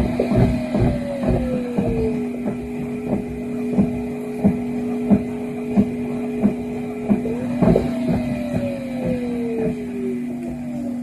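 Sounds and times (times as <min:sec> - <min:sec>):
drum knocking: 0:00.0 - 0:10.8
high whine: 0:00.0 - 0:11.0
washing machine drum whirring: 0:00.0 - 0:11.0.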